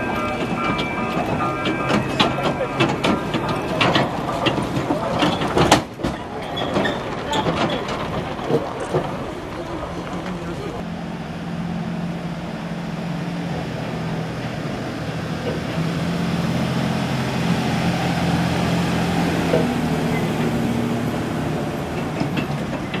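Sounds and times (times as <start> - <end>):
road train engine passing: 0.0 - 23.0.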